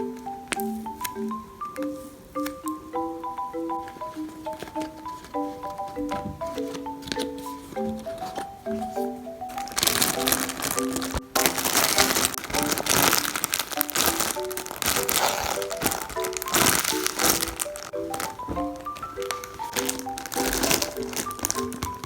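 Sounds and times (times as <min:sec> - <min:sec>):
light music with plinking melody: 0:00.0 - 0:22.0
plastic packaging crinkling: 0:03.9 - 0:22.0.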